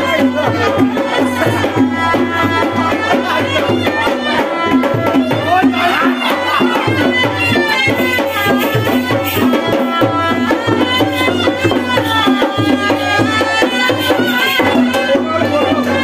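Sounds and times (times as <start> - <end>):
drum beat: 0.0 - 16.0
folk melody sung: 0.0 - 16.0.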